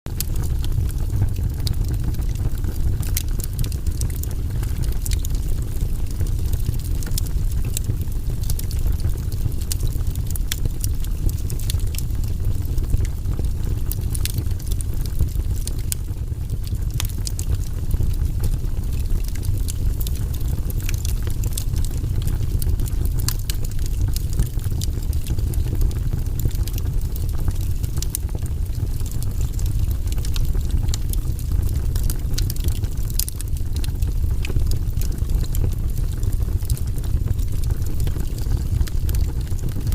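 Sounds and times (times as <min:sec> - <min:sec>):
campfire crackling and popping: 0:00.1 - 0:39.9
fire low rumble: 0:00.1 - 0:39.9.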